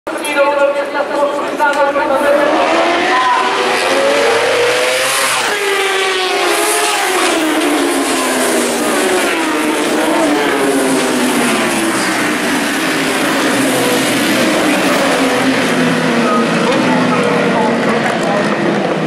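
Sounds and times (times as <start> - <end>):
motorcycles racing past: 2.2 - 19.0.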